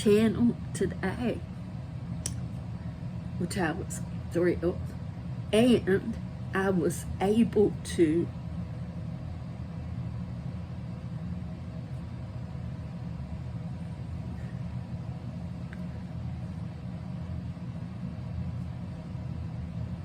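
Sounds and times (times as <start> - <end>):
faint steady tones: 0.0 - 20.0
machine humming: 0.0 - 20.0.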